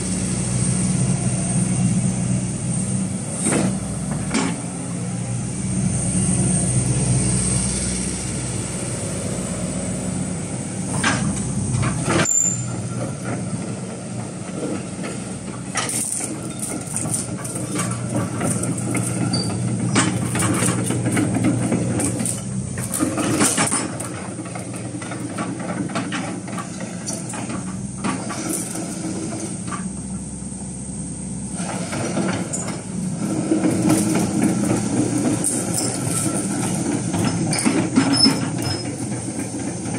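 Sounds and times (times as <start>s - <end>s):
clanks from steel tracks: 0.0s - 39.9s
excavator diesel engine: 0.0s - 39.9s.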